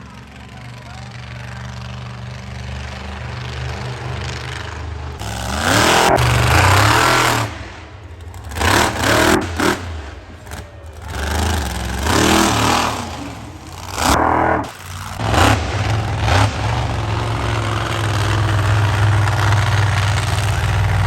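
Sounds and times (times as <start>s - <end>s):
low engine rumble: 0.0s - 21.0s
truck engine revving: 1.6s - 21.0s.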